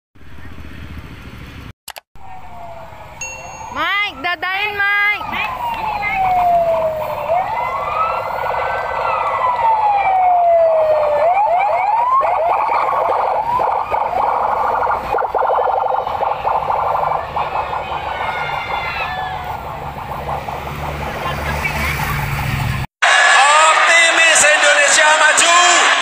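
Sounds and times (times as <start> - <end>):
police sirens wailing and yelping: 2.2 - 26.0.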